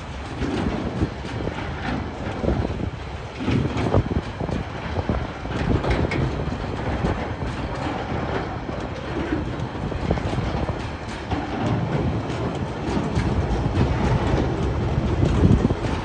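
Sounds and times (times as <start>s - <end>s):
train wheels rumbling on rails: 0.0s - 16.0s
wagons knocking and rattling: 0.0s - 16.0s.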